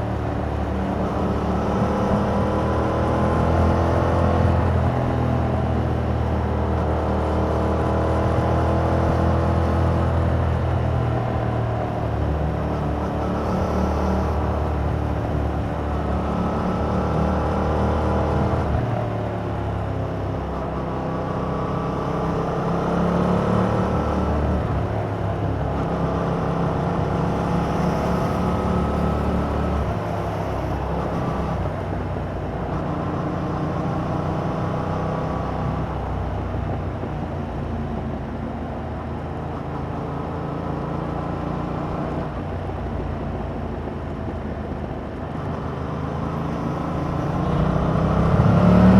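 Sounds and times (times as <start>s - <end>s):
motorcycle engine accelerating: 0.0s - 20.6s, 21.2s - 36.3s, 45.0s - 48.9s.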